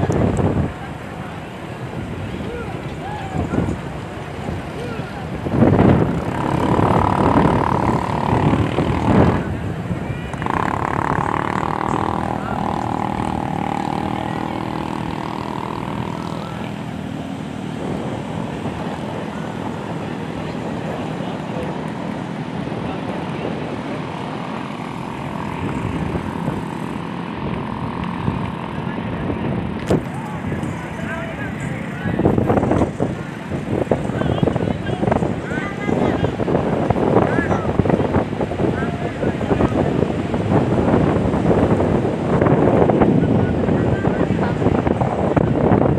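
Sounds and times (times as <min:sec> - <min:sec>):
crowd chatter: 0:00.0 - 0:45.9
surf on a beach: 0:00.0 - 0:45.9
waves washing through shallows: 0:00.0 - 0:45.9
wind rumbling on microphone: 0:00.0 - 0:45.9.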